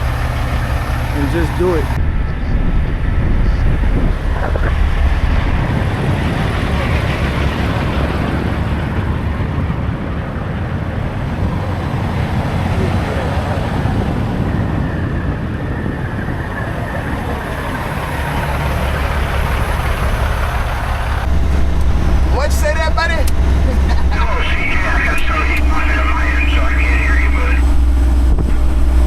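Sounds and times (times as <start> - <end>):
road noise: 0.0 - 29.0
truck engine running: 0.0 - 29.0.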